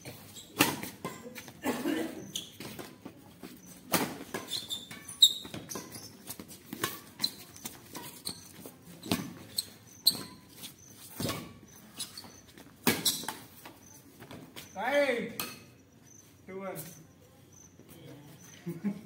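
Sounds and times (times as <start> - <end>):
shoes squeaking on concrete court: 0.0 - 19.0.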